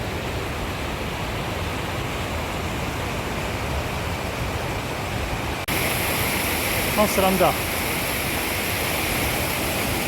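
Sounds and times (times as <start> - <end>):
mountain creek rushing: 0.0 - 10.0.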